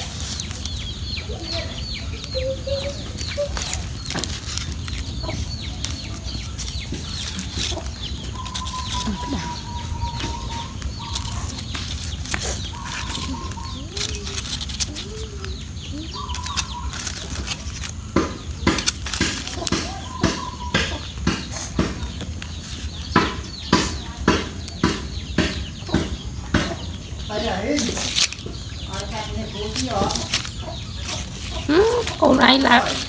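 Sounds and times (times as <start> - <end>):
chickens clucking: 0.0 - 33.0
wood fire crackling: 0.0 - 33.0.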